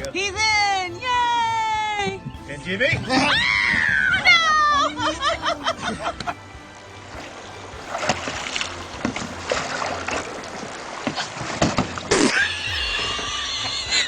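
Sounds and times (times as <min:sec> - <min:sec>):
water splashing and sloshing: 0:02.1 - 0:14.0.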